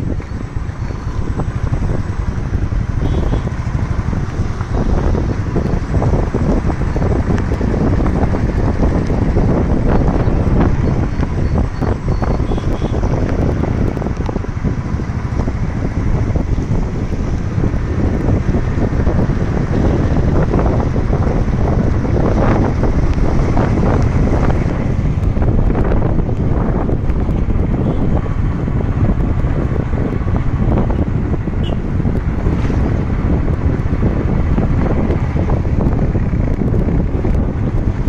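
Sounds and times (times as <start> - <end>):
motorcycle road noise: 0.0 - 38.0
wind buffeting microphone: 0.0 - 38.0.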